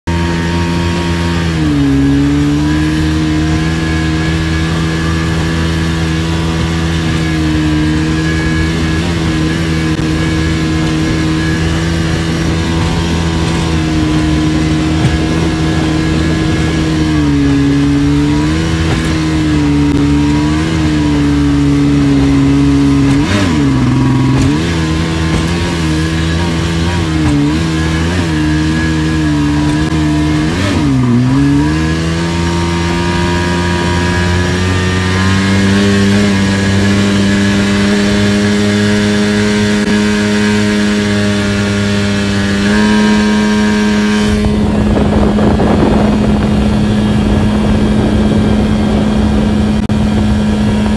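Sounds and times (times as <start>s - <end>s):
outboard motor running: 0.0s - 50.9s.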